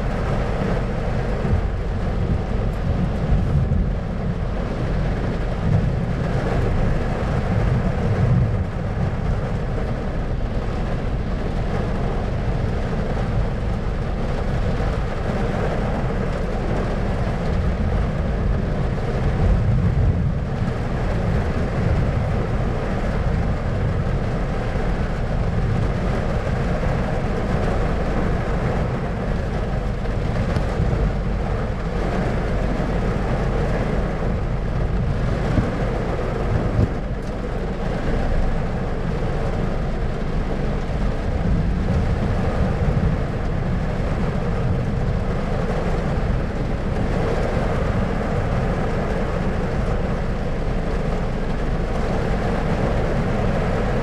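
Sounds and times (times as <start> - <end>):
deep rumble: 0.0 - 54.0
rolling thunder: 0.0 - 54.0.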